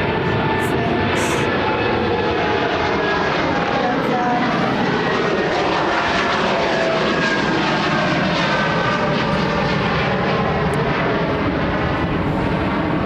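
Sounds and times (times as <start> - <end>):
jet airliner passing overhead: 0.0 - 13.0
jet engine whine: 0.0 - 13.0.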